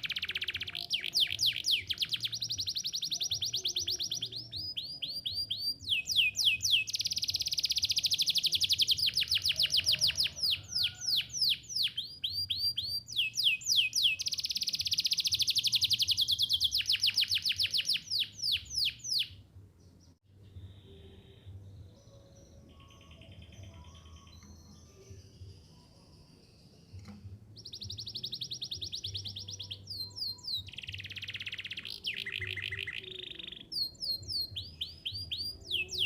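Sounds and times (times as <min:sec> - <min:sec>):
canary singing trills: 0:00.0 - 0:19.4, 0:20.7 - 0:26.8, 0:27.5 - 0:36.0.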